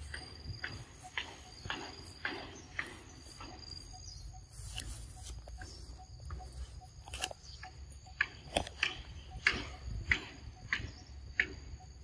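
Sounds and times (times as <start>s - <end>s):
high insect drone: 0.0s - 12.0s
sharp clicks: 0.0s - 12.0s
soft repeating pip: 0.0s - 12.0s.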